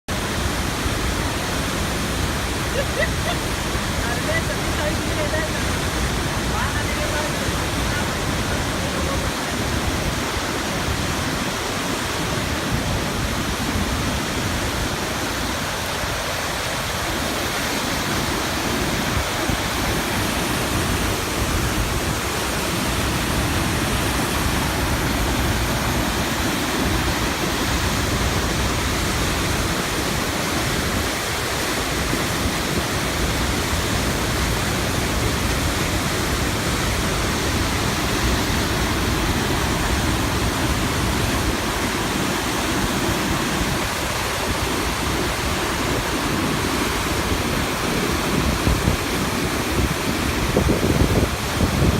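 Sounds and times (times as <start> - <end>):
waterfall roaring: 0.1 - 51.9.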